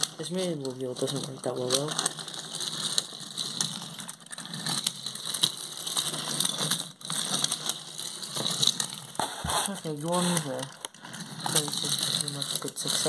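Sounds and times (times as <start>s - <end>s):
toy train rolling on wooden track: 0.0s - 13.0s.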